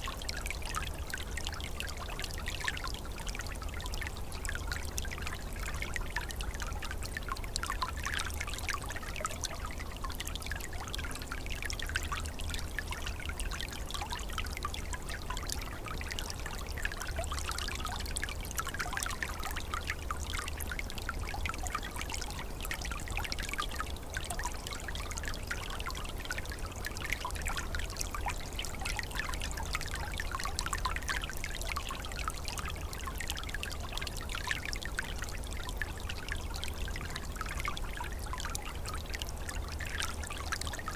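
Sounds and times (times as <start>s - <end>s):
low water rumble: 0.0s - 40.9s
stream babbling over stones: 0.0s - 40.9s.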